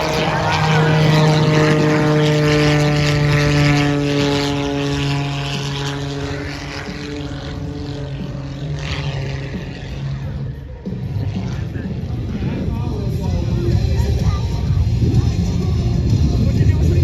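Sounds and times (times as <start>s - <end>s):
propeller airplane flying past: 0.0s - 17.0s.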